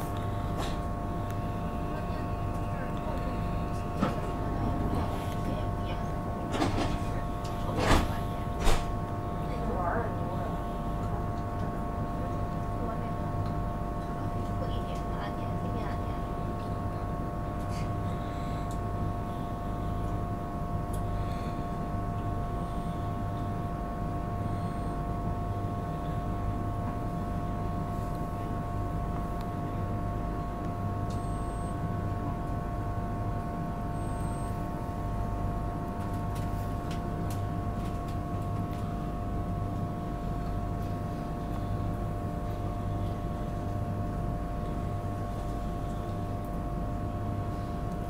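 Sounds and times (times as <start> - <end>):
low electrical drone with whine: 0.0 - 48.0.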